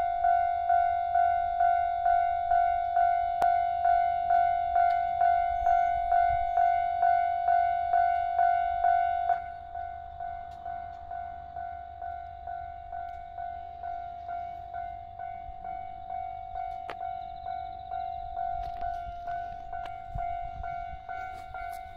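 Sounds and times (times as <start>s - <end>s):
level-crossing alarm ringing: 0.0s - 21.9s.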